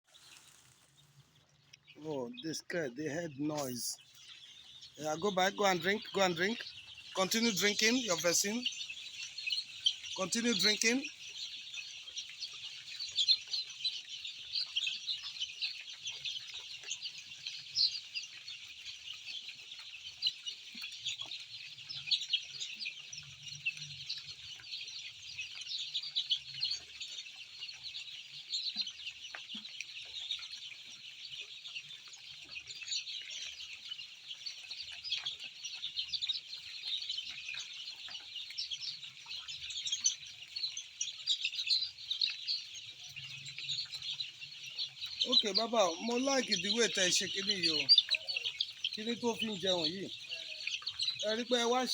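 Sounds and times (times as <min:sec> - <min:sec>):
chicks cheeping: 0:00.0 - 0:51.9.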